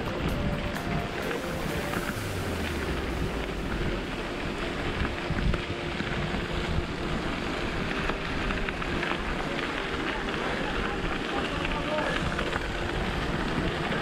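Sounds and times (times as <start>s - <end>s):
bike tyres rumbling on gravel: 0.0s - 14.0s
tyres crackling on stones: 0.0s - 14.0s
wind rushing over microphone: 0.0s - 14.0s.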